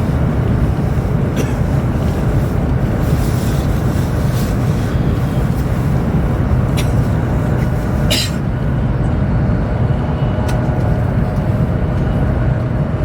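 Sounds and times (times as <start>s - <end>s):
train interior rumble: 0.0s - 13.0s.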